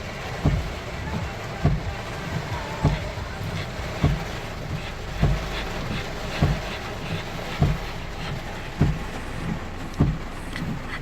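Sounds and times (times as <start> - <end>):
windshield wipers thumping: 0.0 - 11.0.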